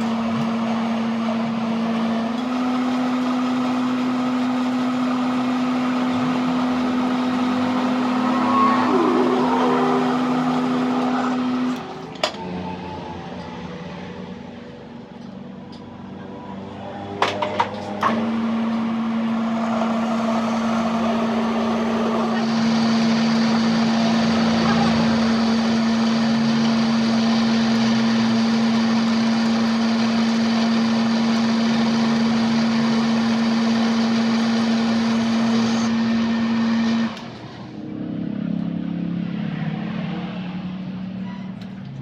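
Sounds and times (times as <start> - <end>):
workshop machine humming and whirring: 0.0 - 42.0.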